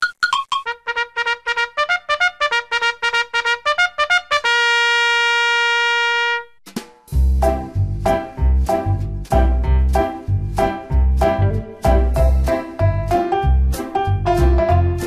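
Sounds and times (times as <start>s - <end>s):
brass melody: 0.6s - 6.6s, 7.4s - 15.0s.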